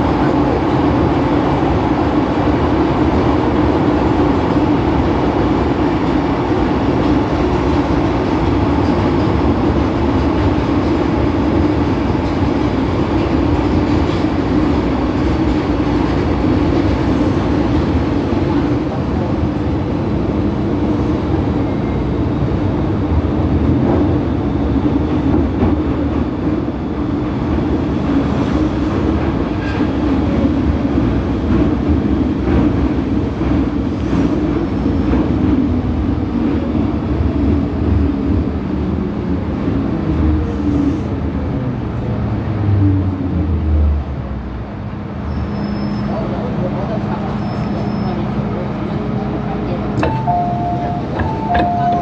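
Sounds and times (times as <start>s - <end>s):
train rumbling inside car: 0.0s - 52.0s.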